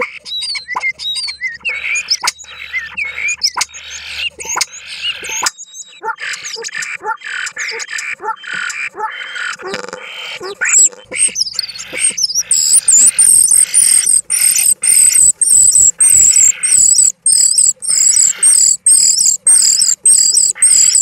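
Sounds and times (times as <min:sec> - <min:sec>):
starling singing: 0:00.0 - 0:21.0.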